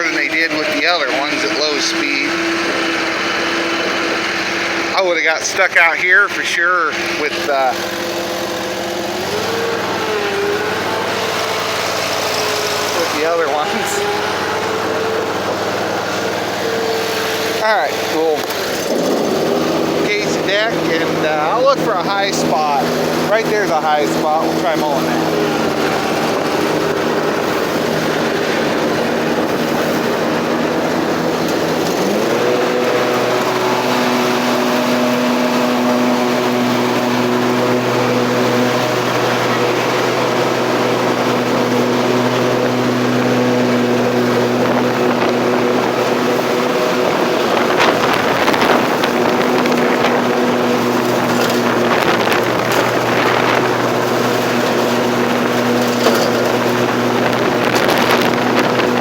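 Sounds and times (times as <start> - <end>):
engine crackles: 0.0 - 59.0
mower engine running: 0.0 - 59.0.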